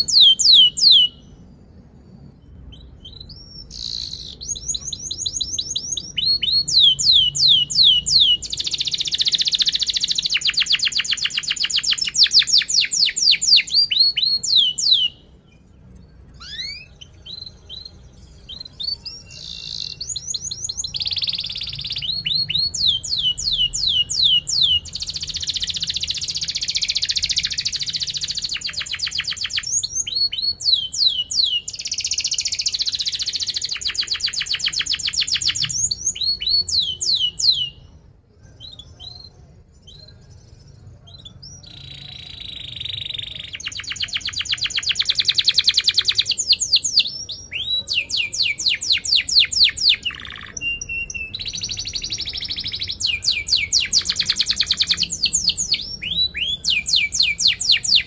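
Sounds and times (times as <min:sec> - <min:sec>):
canary singing chirps and trills: 0:00.0 - 0:58.0.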